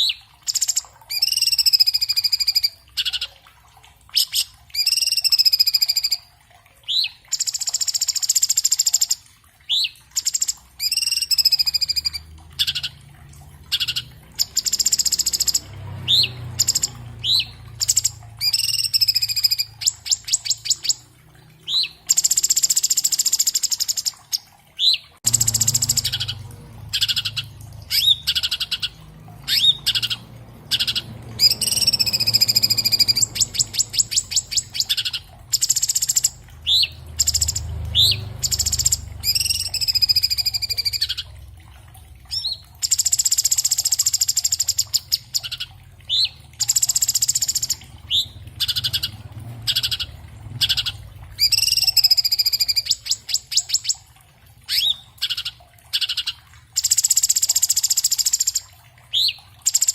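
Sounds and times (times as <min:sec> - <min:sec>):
bird singing whistles and trills: 0:00.0 - 0:03.3, 0:04.1 - 0:06.2, 0:06.9 - 0:13.0, 0:13.7 - 0:21.0, 0:21.6 - 0:41.3, 0:42.3 - 0:54.1, 0:54.7 - 0:59.9.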